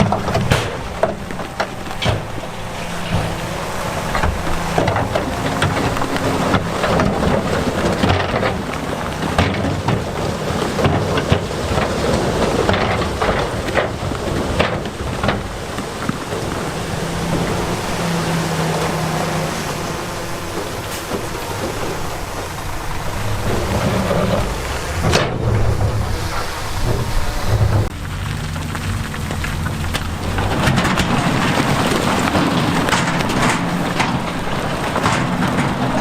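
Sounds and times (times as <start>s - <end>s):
diesel engine droning: 0.0s - 36.0s.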